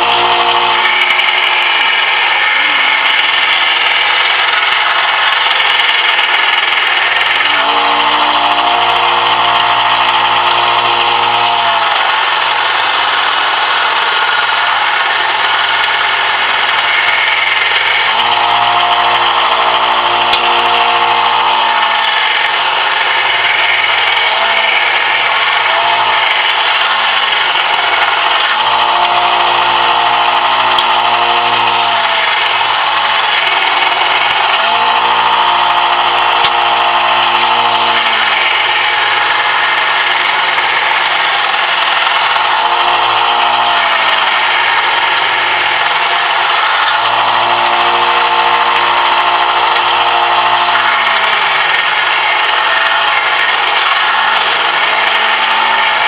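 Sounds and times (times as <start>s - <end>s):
power sander grinding metal: 0.0s - 56.0s.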